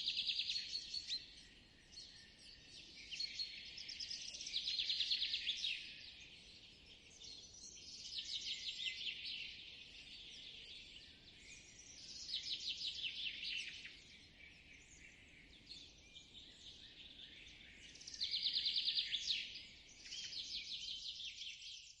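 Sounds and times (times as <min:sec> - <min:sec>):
soft bird chirps: 0:00.0 - 0:22.0.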